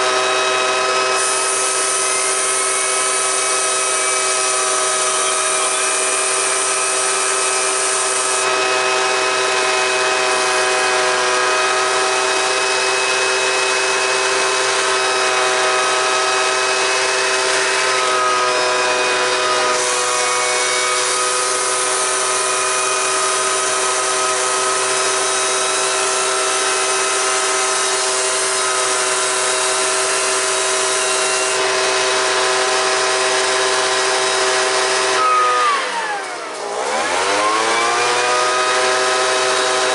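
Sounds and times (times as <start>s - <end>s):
turbocharger whine: 0.0s - 39.9s.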